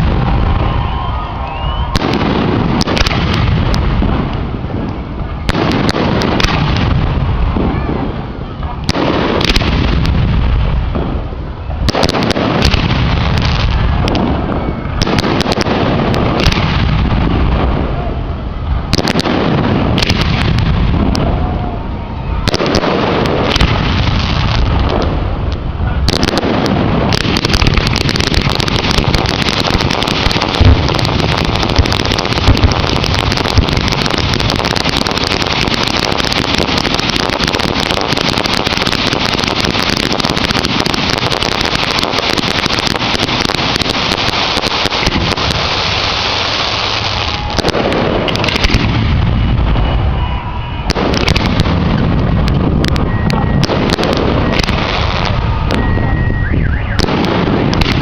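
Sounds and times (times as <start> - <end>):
firework shell bursts and crackling: 1.8 - 7.9, 8.8 - 18.0, 18.9 - 21.2, 22.4 - 49.5, 50.7 - 55.8, 57.0 - 58.0.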